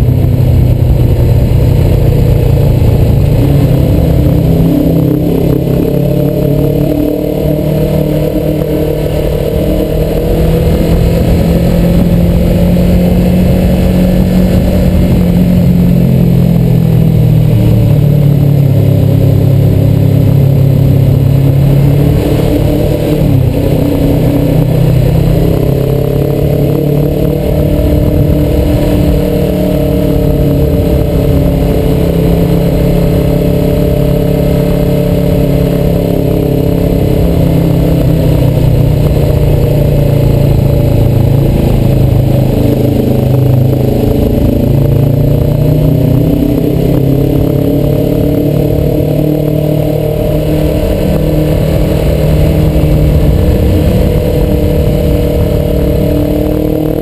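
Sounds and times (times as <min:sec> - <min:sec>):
motorcycle engine roar: 0:00.0 - 0:57.0
wind rushing over microphone: 0:00.0 - 0:57.0.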